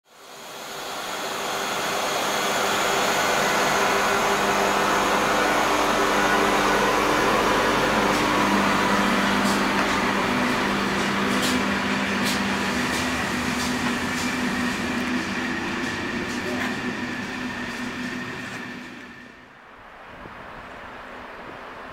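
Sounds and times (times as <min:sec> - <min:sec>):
electric train running: 0:00.1 - 0:19.5.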